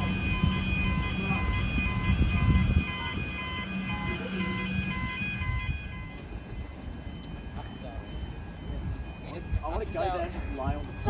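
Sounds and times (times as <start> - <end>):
electric train rumbling: 0.0 - 11.0
level crossing bells ringing: 0.0 - 11.0.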